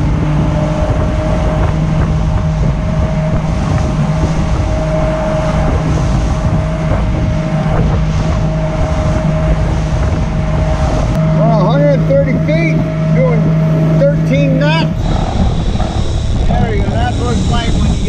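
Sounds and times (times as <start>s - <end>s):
motorboat engine running: 0.0s - 18.0s
water rushing past hull: 0.0s - 18.0s
wind buffeting microphone: 0.0s - 18.0s.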